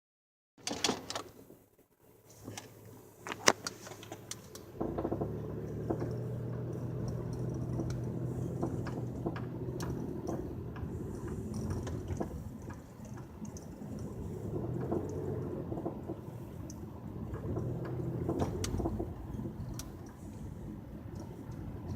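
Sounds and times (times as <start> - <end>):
car engine running steadily: 2.1 - 21.9.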